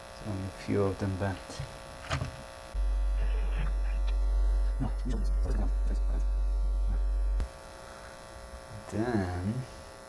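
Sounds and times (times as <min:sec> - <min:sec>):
loud electrical mains hum: 0:00.0 - 0:10.0.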